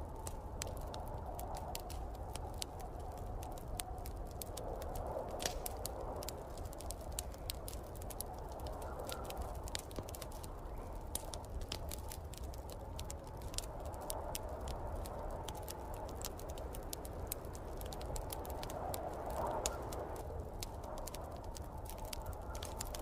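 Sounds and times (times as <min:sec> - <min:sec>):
snowstorm wind: 0:00.0 - 0:23.0
wood fire crackling and popping: 0:00.0 - 0:23.0.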